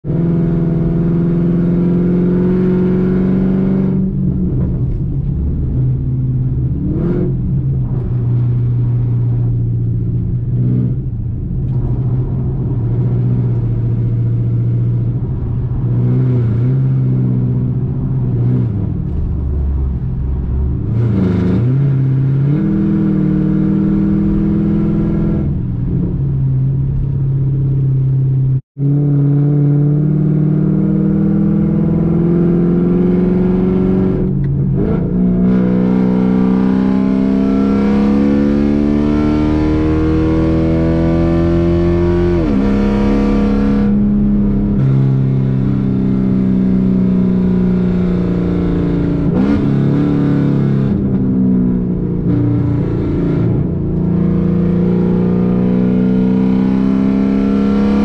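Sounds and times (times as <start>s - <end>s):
car engine from inside cabin: 0.1s - 58.0s.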